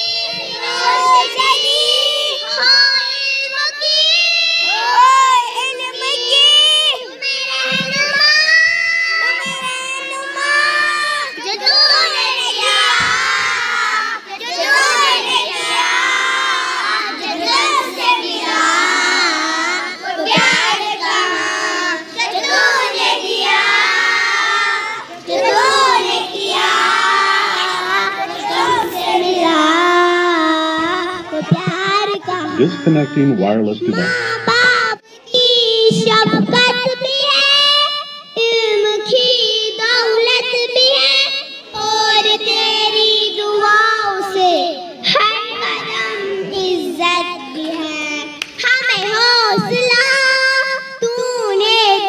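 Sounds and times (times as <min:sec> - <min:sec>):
children singing in unison: 0:00.0 - 0:52.0.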